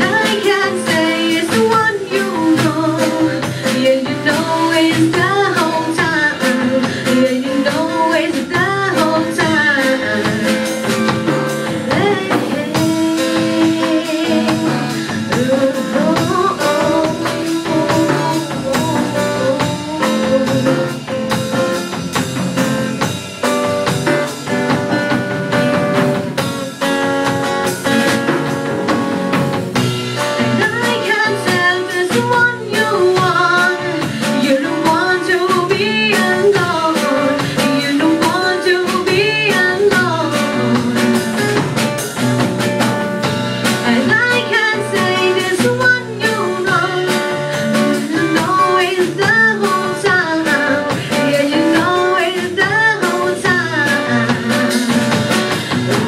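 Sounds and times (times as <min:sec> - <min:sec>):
band music with singing: 0:00.0 - 0:56.0.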